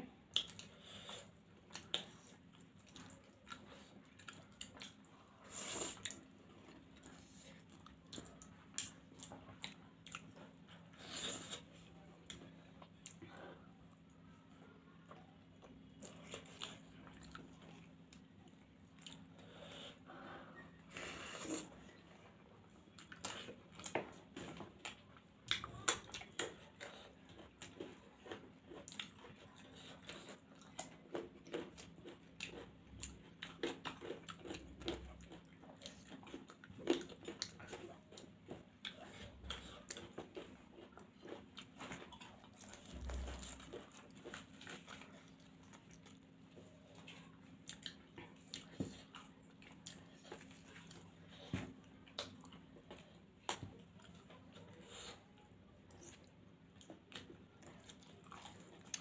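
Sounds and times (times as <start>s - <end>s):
faint steady hum: 0.0s - 59.0s
people chewing: 0.0s - 59.0s.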